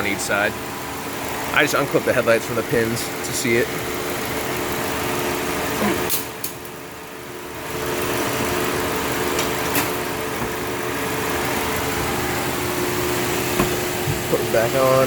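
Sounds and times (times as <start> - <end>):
air conditioning hum: 0.0 - 15.0
car engine idling: 0.0 - 15.0.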